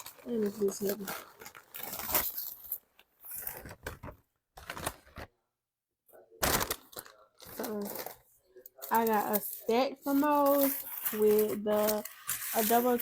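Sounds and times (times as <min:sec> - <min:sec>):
packaging rustling and crinkling: 0:00.0 - 0:05.4, 0:06.4 - 0:13.0.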